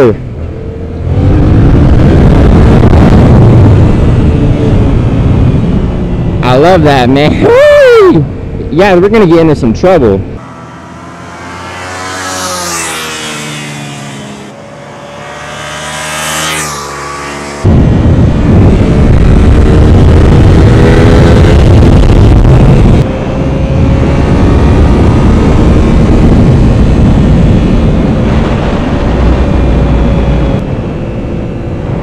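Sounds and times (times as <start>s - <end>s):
motorcycle engine accelerating: 0.0s - 6.7s, 10.3s - 32.0s
heavy wind rush: 0.0s - 32.0s.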